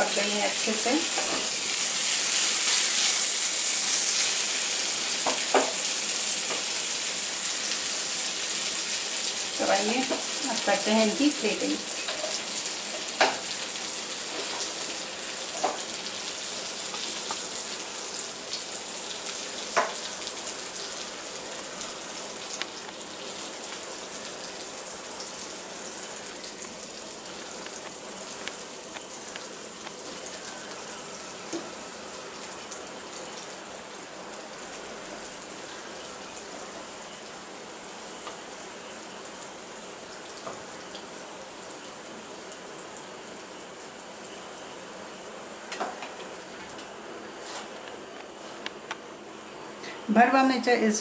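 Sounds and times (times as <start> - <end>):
hot oil sizzling and crackling: 0.0 - 47.8.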